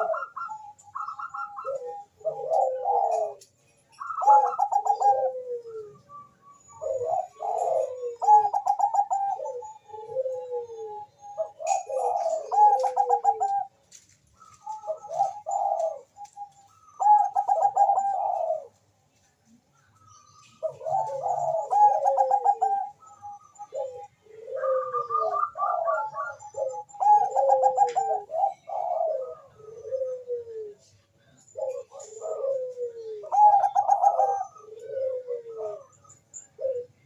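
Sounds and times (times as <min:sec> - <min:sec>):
dove cooing trills: 0:00.0 - 0:37.0.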